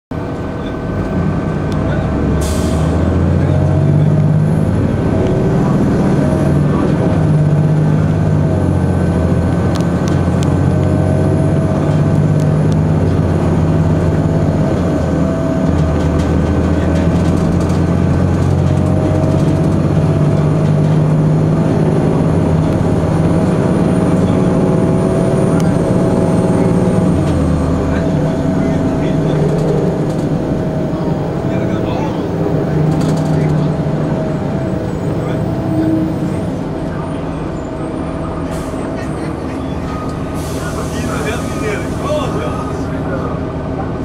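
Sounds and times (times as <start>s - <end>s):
bus diesel engine droning: 0.1s - 44.0s.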